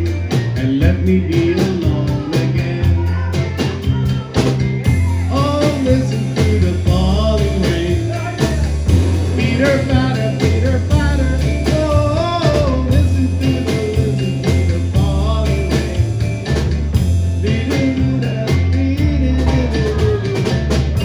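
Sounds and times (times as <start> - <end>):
band music: 0.0 - 21.0.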